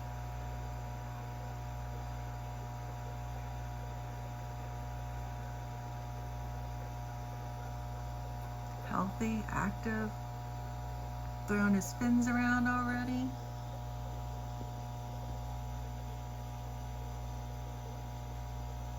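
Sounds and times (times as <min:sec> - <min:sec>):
low electrical hum: 0:00.0 - 0:18.9.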